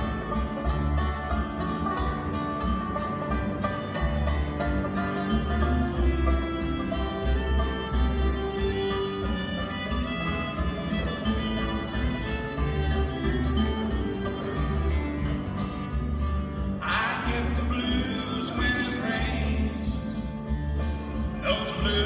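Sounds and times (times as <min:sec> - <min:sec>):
fiddle melody: 0:00.0 - 0:22.0
strummed guitar: 0:00.0 - 0:22.0
upright bass: 0:00.0 - 0:22.0.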